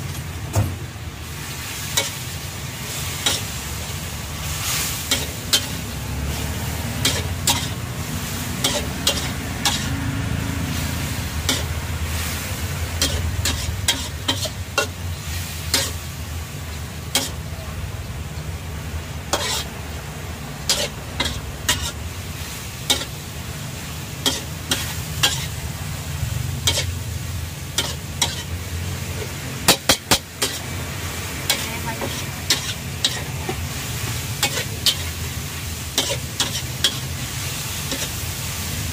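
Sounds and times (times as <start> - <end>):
food sizzling: 0.0 - 38.9
metal spatula scraping a wok: 1.3 - 17.5, 19.2 - 19.9, 20.6 - 30.8, 31.4 - 38.8.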